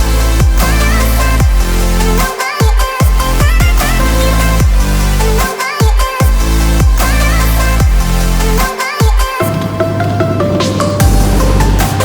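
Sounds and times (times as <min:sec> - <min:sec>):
dubstep electronic music: 0:00.0 - 0:12.0.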